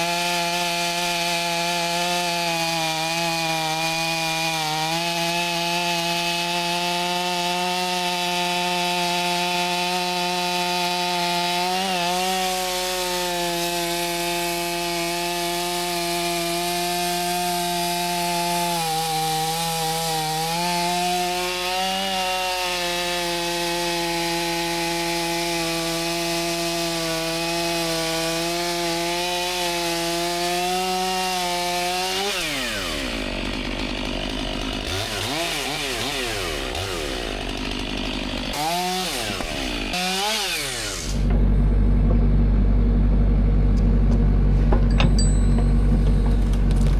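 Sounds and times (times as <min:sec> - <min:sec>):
chainsaw cutting through wood: 0:00.0 - 0:42.4, 0:43.2 - 0:46.9.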